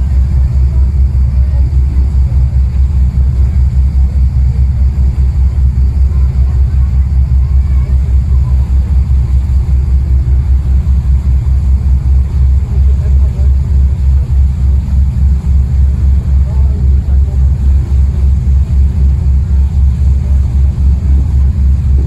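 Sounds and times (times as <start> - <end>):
motorboat engine rumbling: 0.0 - 22.0.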